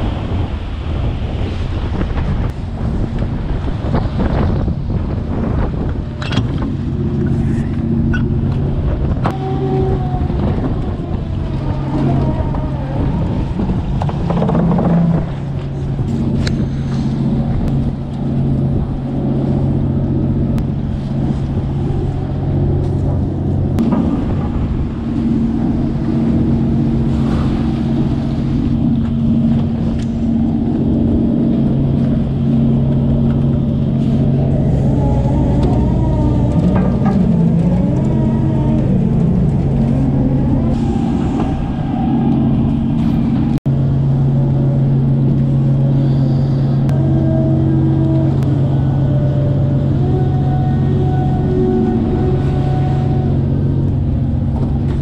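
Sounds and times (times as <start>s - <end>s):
ship engine and hydraulics humming: 0.0s - 55.0s.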